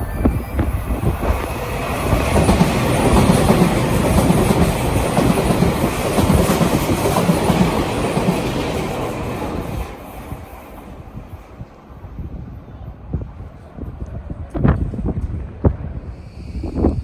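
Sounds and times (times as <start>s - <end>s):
train wheels on rails: 0.0s - 16.9s.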